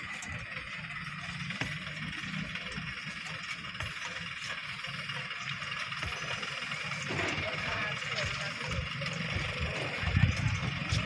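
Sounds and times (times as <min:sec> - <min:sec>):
distant diesel truck engines rumbling: 0:00.0 - 0:11.0
steady outdoor hiss: 0:00.0 - 0:11.0.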